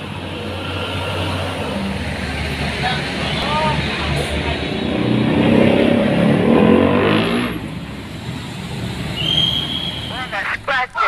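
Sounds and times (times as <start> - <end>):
truck diesel engine revving: 0.0 - 10.1
road traffic noise: 0.0 - 11.0.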